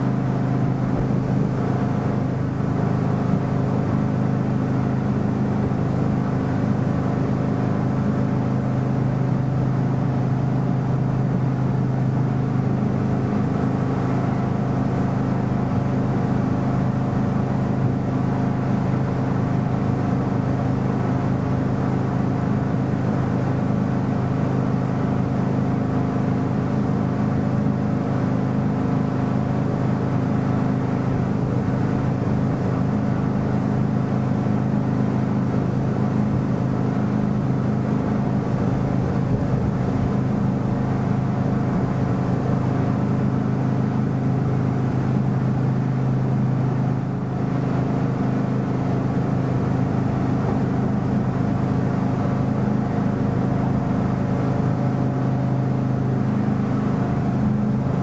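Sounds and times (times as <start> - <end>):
motorboat engine running: 0.0 - 58.0
water rushing along hull: 0.0 - 58.0.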